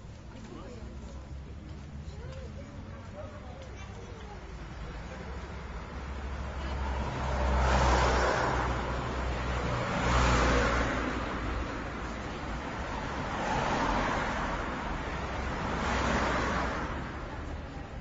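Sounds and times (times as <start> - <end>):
cars passing: 0.0 - 18.0.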